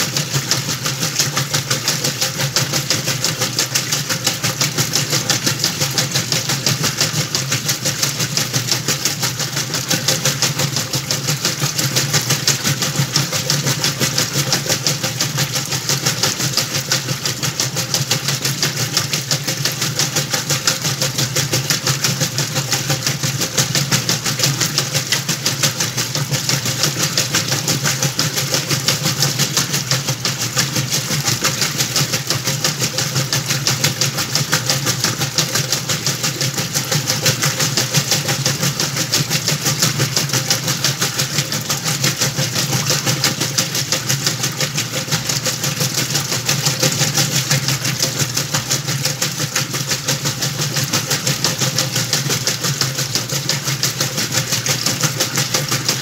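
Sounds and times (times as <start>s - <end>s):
washing machine humming and pulsing: 0.0s - 56.0s.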